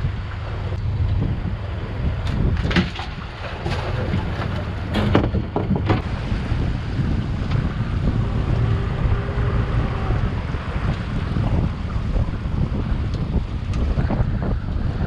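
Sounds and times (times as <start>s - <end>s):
sea washing around boat: 0.0s - 15.0s
wind buffeting microphone: 0.0s - 15.0s.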